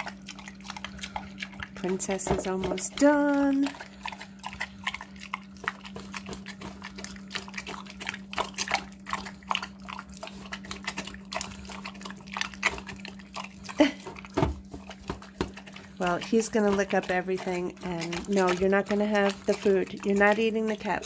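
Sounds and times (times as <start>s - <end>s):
pig smacking and slurping food: 0.0s - 21.0s.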